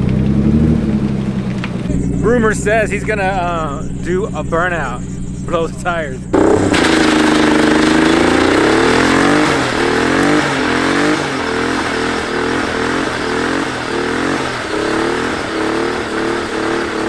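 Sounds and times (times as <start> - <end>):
engine revving high: 0.0 - 17.0.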